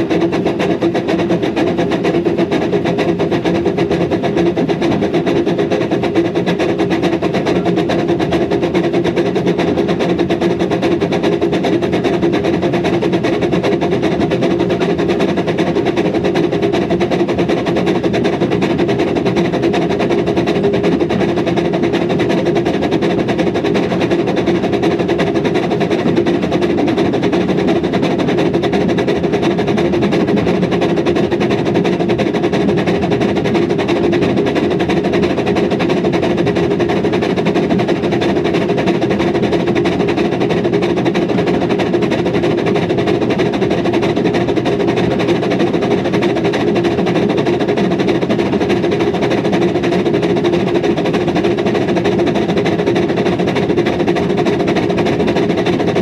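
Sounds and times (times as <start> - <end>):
steam locomotive running: 0.0 - 56.0.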